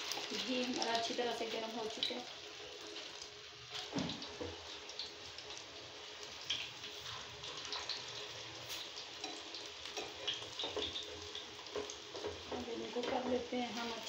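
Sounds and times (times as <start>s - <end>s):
patties sizzling in a pan: 0.0s - 14.0s.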